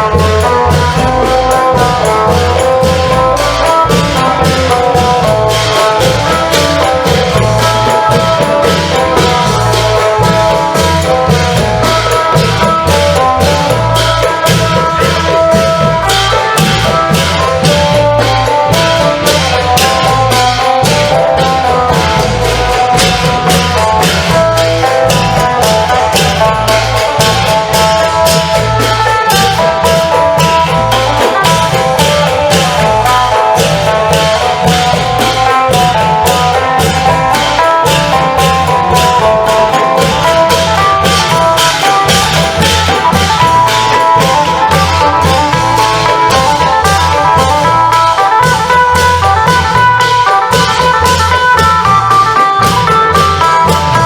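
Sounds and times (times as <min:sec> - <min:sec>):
drums and cymbals beat: 0:00.0 - 0:54.0.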